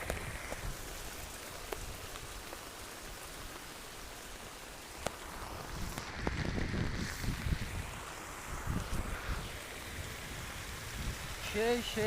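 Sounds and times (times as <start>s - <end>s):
heavy rain hiss: 0.0s - 12.0s
raindrops hitting close by: 0.0s - 12.0s.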